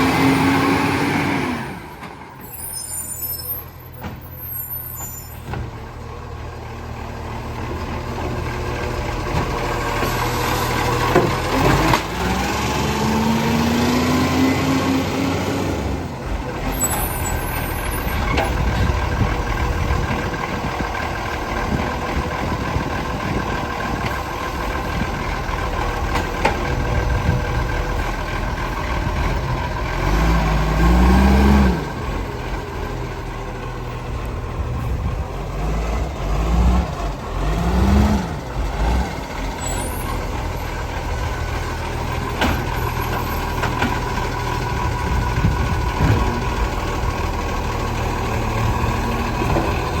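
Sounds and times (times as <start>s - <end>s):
diesel engine running and revving: 0.0s - 50.0s.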